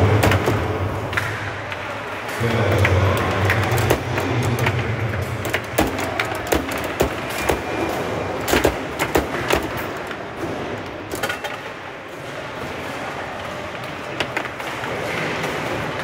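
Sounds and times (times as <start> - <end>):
room noise: 0.0 - 16.0.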